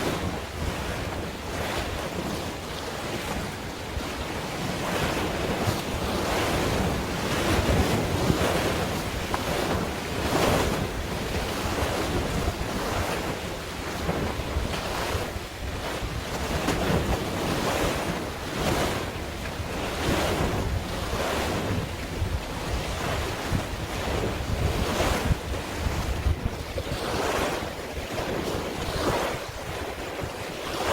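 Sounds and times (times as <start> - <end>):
sea waves washing: 0.0 - 30.9
wind buffeting microphone: 0.0 - 30.9.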